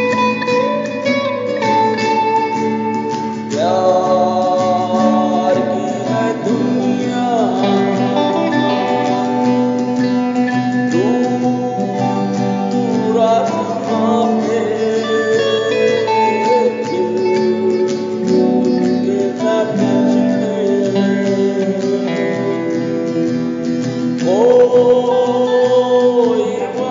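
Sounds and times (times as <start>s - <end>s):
acoustic guitar strumming: 0.0s - 26.9s
electric lead guitar: 0.0s - 26.9s
person singing: 0.0s - 26.9s.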